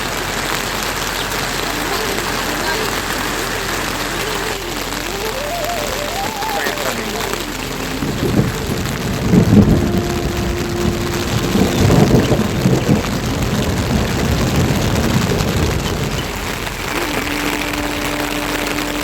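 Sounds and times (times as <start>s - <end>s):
low rumbles: 0.0s - 19.0s
rain falling steadily: 0.0s - 19.0s.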